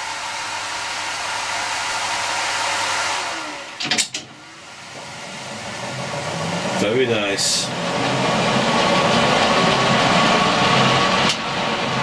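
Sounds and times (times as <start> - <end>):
lathe spindle whirring: 0.0 - 12.0.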